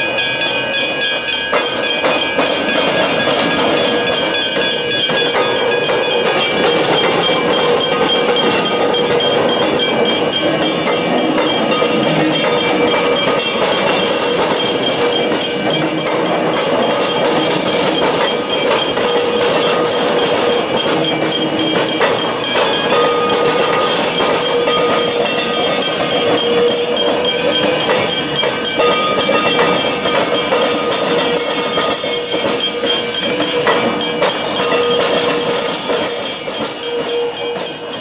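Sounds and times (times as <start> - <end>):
electric train rolling slowly: 0.0 - 38.0
level crossing bells ringing: 0.0 - 38.0
train wheels clacking over rails: 0.0 - 38.0.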